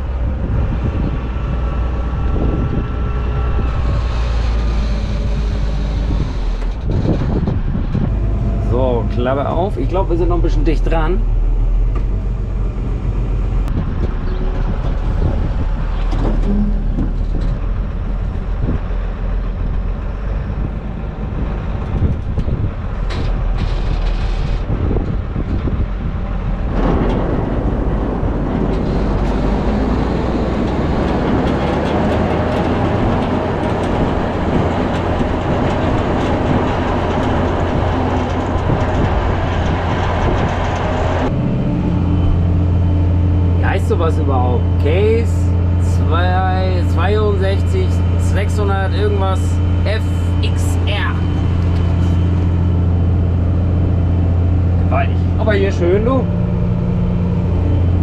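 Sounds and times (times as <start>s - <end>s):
loader wagon rattling rumble: 0.0s - 58.0s
tractor running under load: 0.0s - 58.0s.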